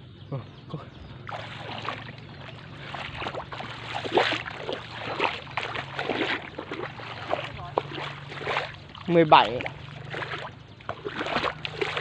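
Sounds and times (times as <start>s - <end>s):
steady low hum: 0.0s - 12.0s
water sloshing and splashing: 1.1s - 12.0s.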